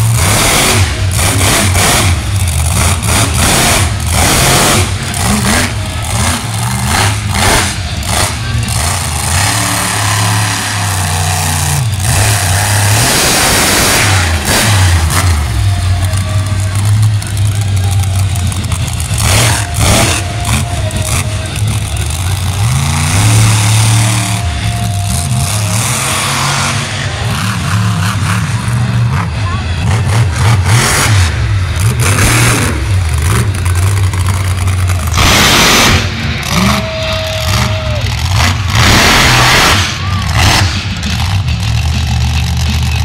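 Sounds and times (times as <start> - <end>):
monster truck engine revving: 0.0 - 43.0.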